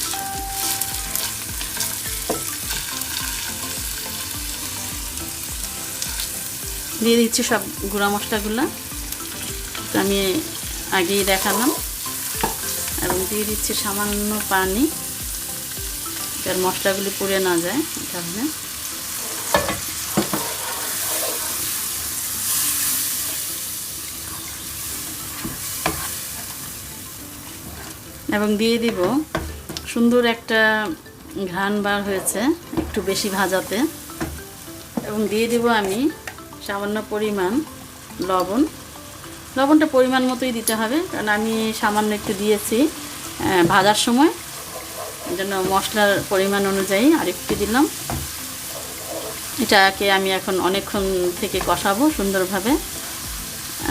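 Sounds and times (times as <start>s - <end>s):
onion sizzling in hot oil: 0.0s - 53.9s.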